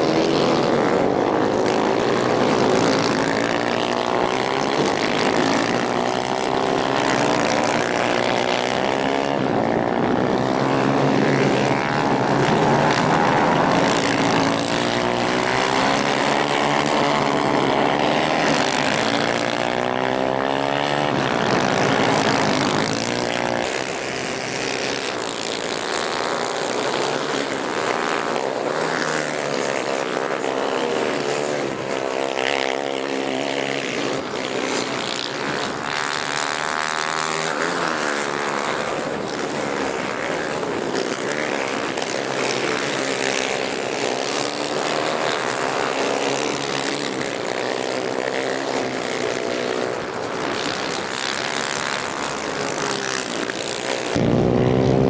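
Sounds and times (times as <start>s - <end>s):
racing kart engines revving: 0.0s - 55.0s.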